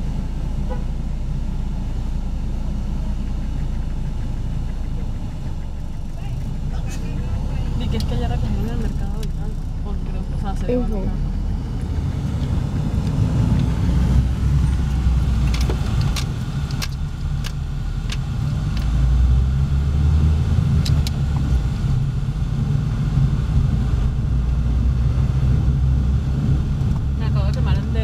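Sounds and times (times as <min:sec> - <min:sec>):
engine and road noise rumble: 0:00.0 - 0:28.0.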